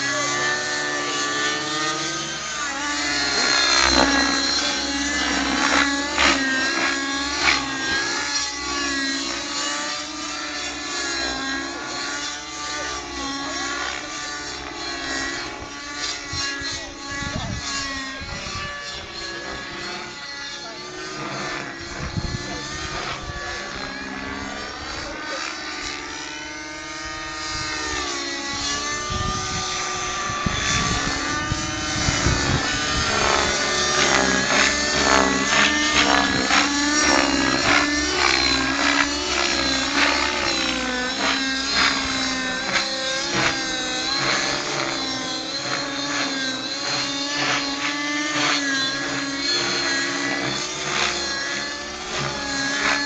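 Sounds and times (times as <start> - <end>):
model helicopter engine and rotor: 0.0 - 53.0.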